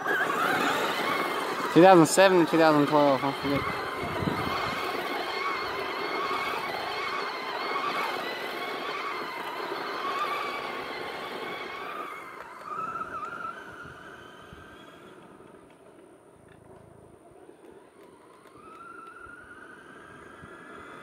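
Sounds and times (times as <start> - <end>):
vehicle whine wavering in pitch: 0.0 - 21.0.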